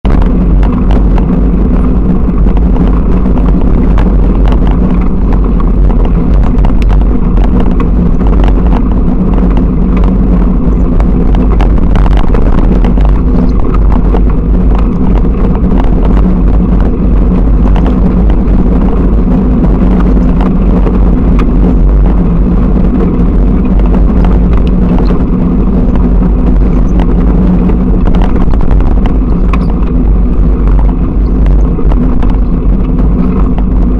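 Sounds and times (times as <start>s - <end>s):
bicycle tyre rumbling on dirt: 0.0s - 33.9s.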